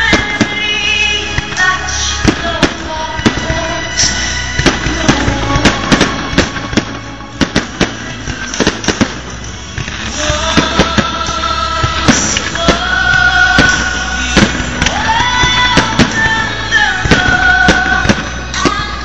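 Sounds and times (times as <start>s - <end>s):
fireworks bangs: 0.0s - 19.0s
music playing: 0.0s - 19.0s.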